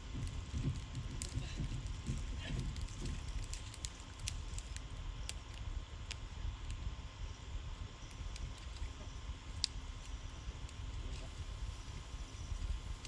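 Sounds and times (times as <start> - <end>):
low steady fire rumble: 0.0 - 13.0
wood fire crackling: 0.0 - 13.0.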